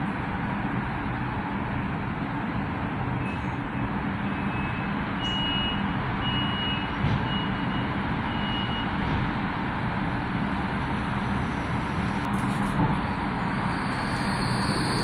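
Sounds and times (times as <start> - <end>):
tram electric hum: 0.0 - 15.0.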